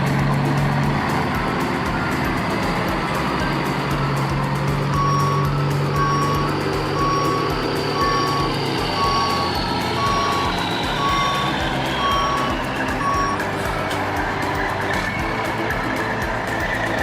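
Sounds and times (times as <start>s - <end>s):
truck engine running: 0.0s - 17.0s
truck reversing alarm beeping: 0.0s - 17.0s.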